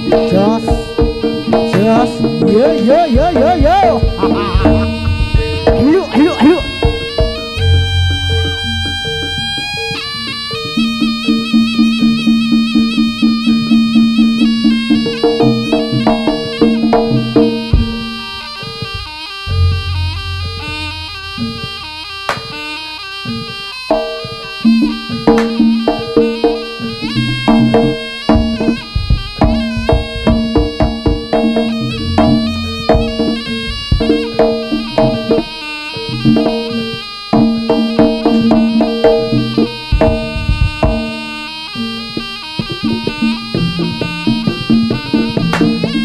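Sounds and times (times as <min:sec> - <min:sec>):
quick driving drum strokes: 0:00.0 - 0:08.1, 0:14.2 - 0:46.0
reedy shawm melody: 0:00.0 - 0:46.0.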